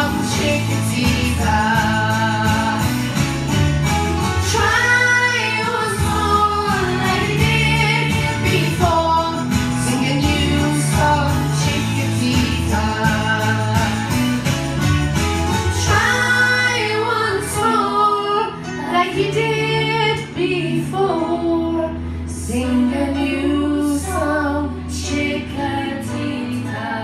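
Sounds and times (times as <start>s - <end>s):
woman singing into microphone: 0.0s - 3.2s, 4.4s - 14.2s, 15.8s - 27.0s
backing track with bass notes: 0.0s - 27.0s.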